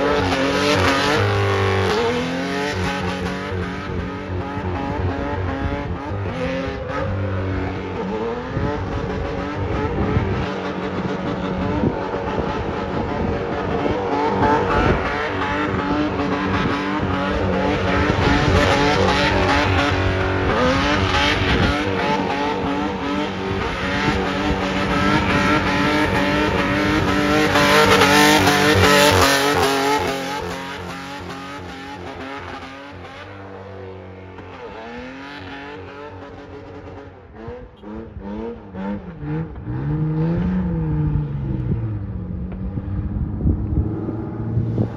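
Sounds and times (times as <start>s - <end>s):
engine revving: 0.0s - 44.9s.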